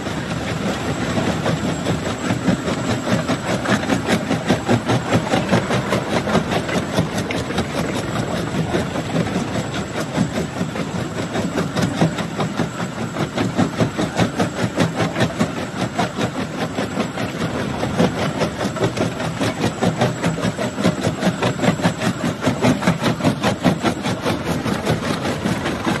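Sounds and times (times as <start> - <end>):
crusher machine running: 0.1 - 26.0.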